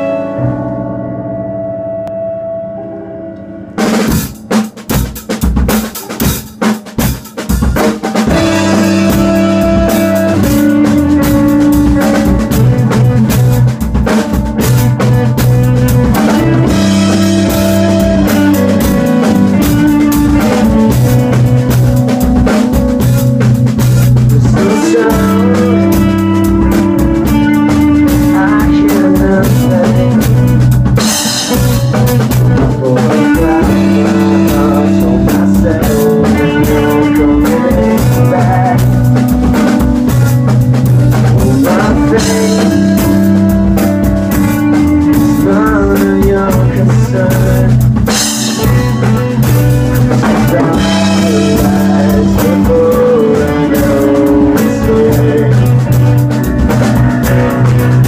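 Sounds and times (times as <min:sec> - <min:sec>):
live rock band playing: 0:00.0 - 0:58.0
drum kit hits: 0:03.7 - 0:58.0.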